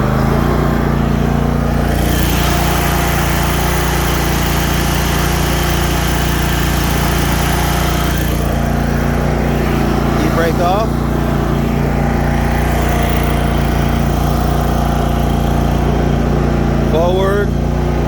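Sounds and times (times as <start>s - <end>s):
mower engine at high throttle: 0.0s - 18.0s.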